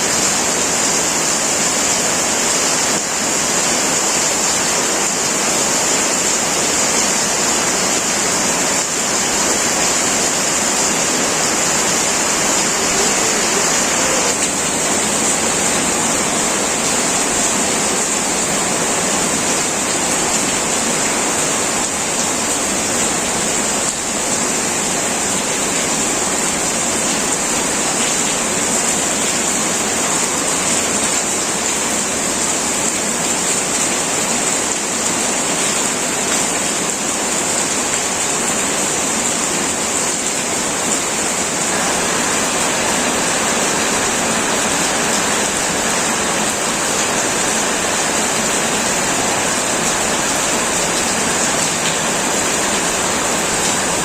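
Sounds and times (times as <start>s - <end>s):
heavy rain on metal roof: 0.0s - 54.0s.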